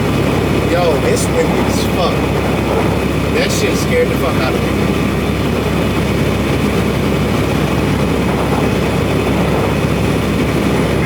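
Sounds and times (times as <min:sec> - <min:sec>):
strong wind: 0:00.0 - 0:11.0
truck engine and tyre noise: 0:00.0 - 0:11.0.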